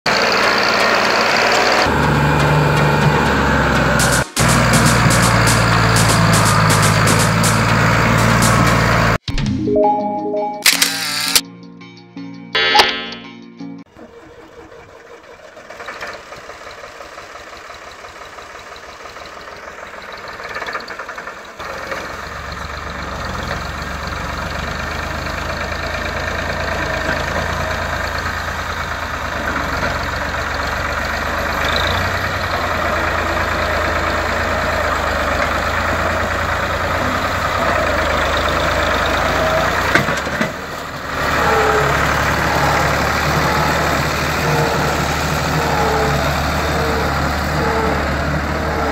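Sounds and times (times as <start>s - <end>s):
tractor diesel engine running: 0.0s - 9.2s, 13.8s - 48.9s.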